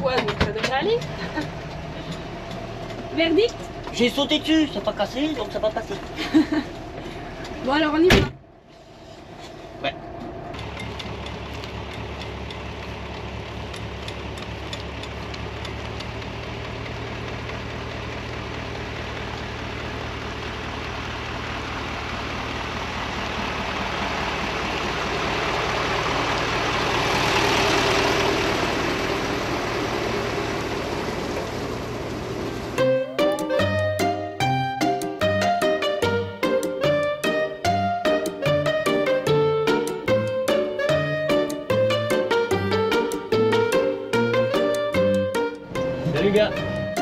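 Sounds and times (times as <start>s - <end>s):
diesel truck engine running: 0.0s - 47.0s.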